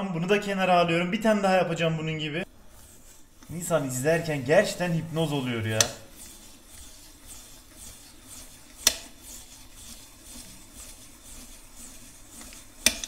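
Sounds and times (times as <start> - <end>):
blade scraping potato: 2.5 - 13.0.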